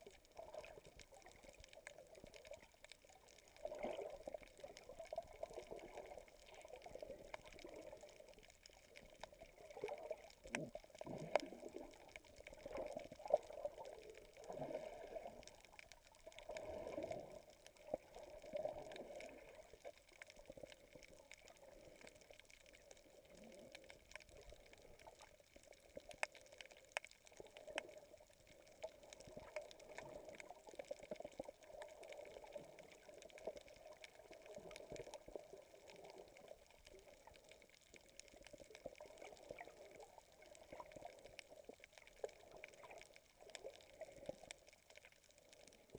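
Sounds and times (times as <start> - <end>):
underwater water sloshing: 0.0 - 45.9.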